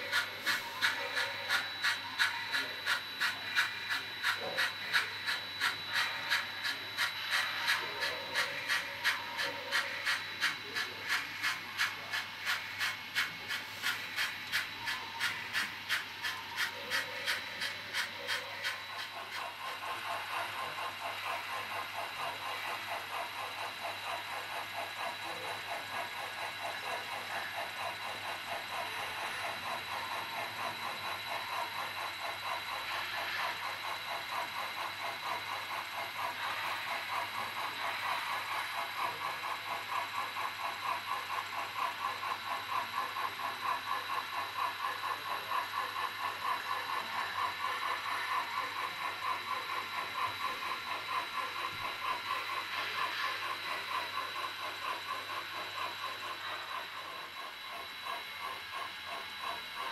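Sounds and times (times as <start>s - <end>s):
model steam locomotive chuffing: 0.0s - 59.9s.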